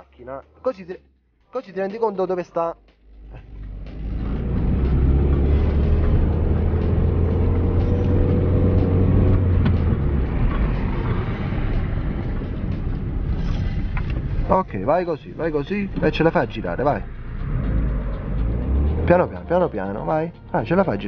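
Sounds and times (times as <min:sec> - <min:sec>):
car engine pulling away: 0:03.0 - 0:21.0.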